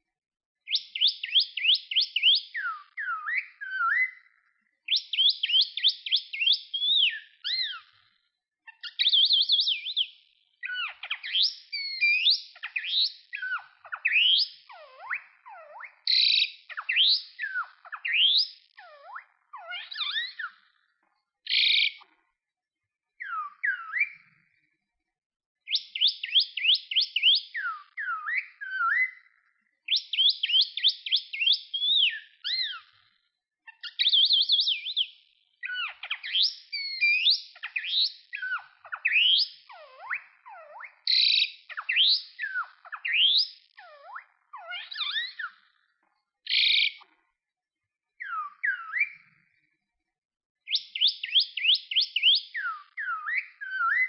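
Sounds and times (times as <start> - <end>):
bird whistling song: 0.7 - 8.1, 8.7 - 20.9, 21.5 - 22.1, 23.2 - 24.6, 25.7 - 33.1, 33.7 - 47.1, 48.2 - 49.6, 50.6 - 54.0.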